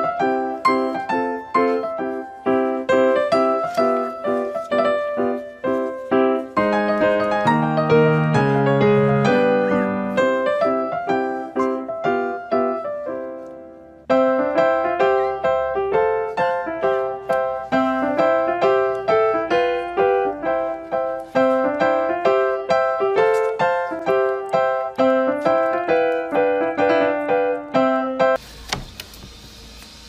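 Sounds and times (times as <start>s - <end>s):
piano music: 0.0s - 28.4s.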